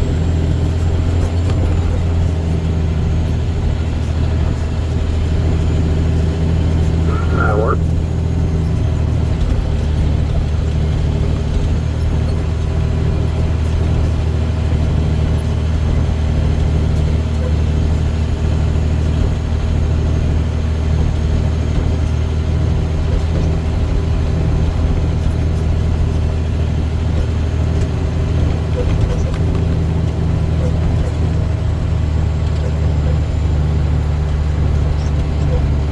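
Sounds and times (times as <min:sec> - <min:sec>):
road noise: 0:00.0 - 0:35.9
truck engine droning: 0:00.0 - 0:35.9.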